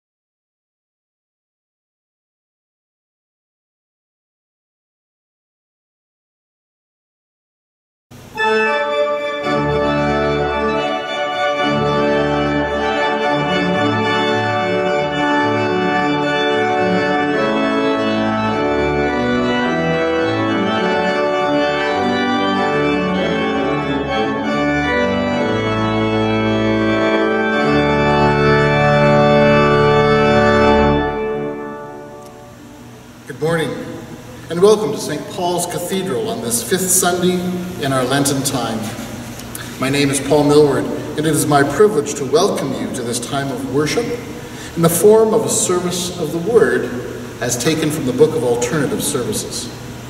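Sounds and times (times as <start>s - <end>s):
church organ chords: 8.1s - 50.0s.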